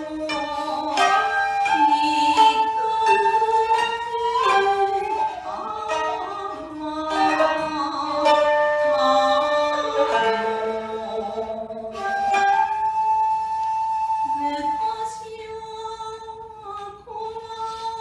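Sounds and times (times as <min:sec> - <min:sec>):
plucked shamisen notes: 0:00.0 - 0:15.3
koto notes: 0:00.0 - 0:15.4
bamboo flute line: 0:00.0 - 0:16.2
woman singing held tones: 0:00.0 - 0:18.0.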